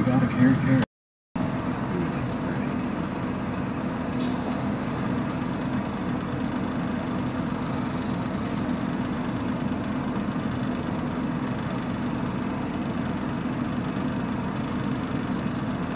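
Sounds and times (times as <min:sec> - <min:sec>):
vehicle engine idling: 0:01.4 - 0:15.9.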